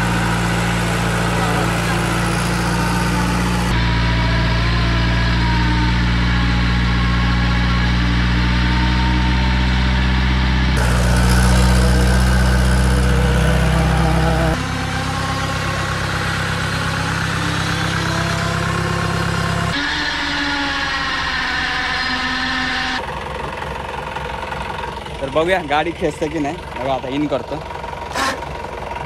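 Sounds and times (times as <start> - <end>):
jeep engine running: 0.0 - 19.8, 21.4 - 29.0.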